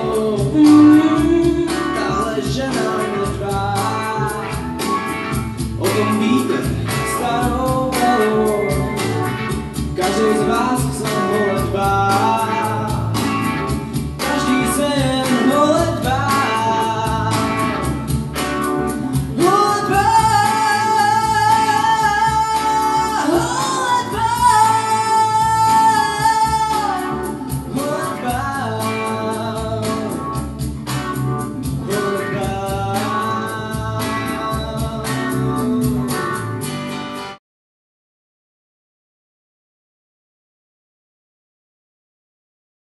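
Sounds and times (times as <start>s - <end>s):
man singing pop song: 0.0s - 36.7s
accompaniment with steady beat: 0.0s - 37.4s.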